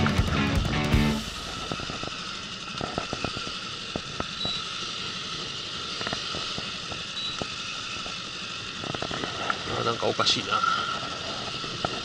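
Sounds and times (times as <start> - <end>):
outboard motor humming: 0.0 - 12.0
fishing reel cranking: 1.5 - 12.0.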